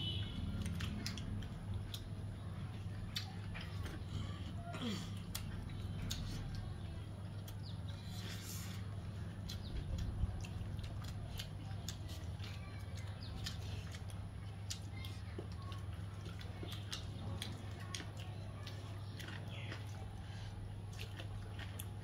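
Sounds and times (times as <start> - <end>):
wet chewing and lip smacks: 0.2 - 22.0.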